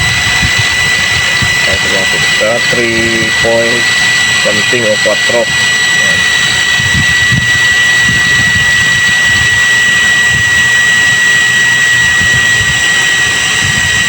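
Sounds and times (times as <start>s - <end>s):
electric water pump whining: 0.0s - 14.0s.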